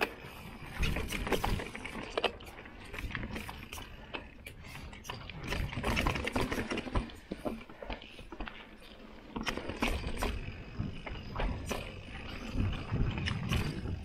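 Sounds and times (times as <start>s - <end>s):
bike rattling and knocking: 0.0s - 14.0s
bike tyres rumbling over ground: 0.0s - 14.0s.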